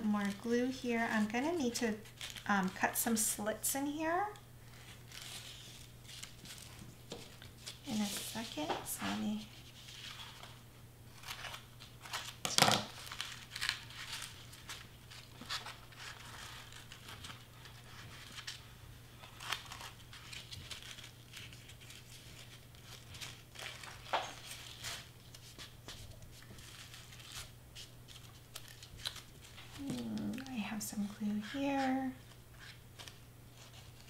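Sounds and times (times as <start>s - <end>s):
crepe paper crinkling: 0.0s - 34.0s.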